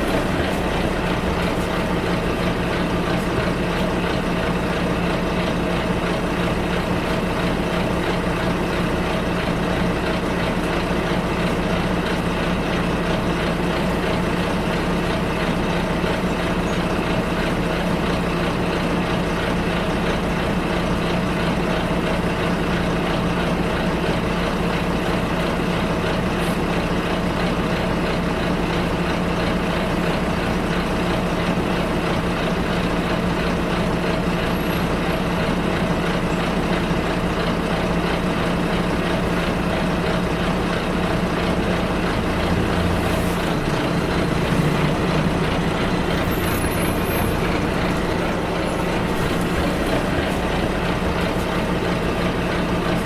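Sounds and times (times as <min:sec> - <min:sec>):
bus engine hum: 0:00.0 - 0:53.0.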